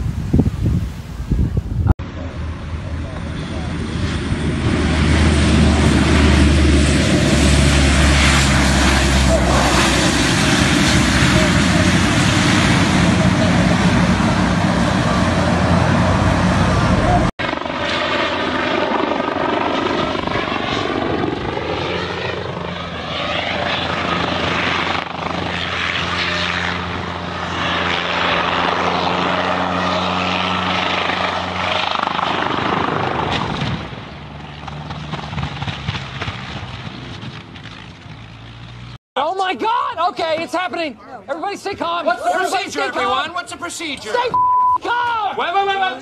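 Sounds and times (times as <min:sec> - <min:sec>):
helicopter flying past: 0:02.0 - 0:39.0.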